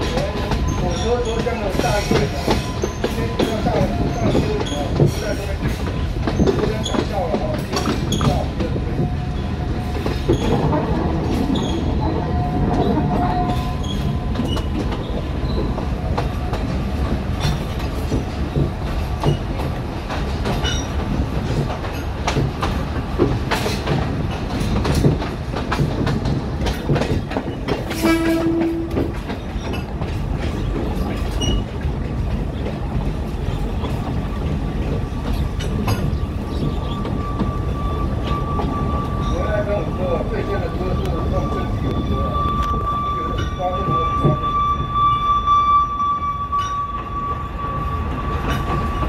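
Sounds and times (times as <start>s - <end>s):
wheels clacking over rail joints: 0.0s - 44.4s
train rumbling: 0.0s - 49.0s.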